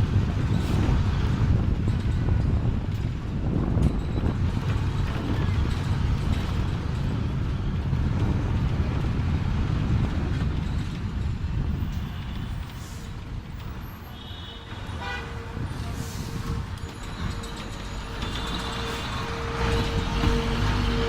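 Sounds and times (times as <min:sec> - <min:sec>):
wind on microphone: 0:00.0 - 0:13.9, 0:14.7 - 0:21.0
road traffic rumble: 0:00.0 - 0:21.0.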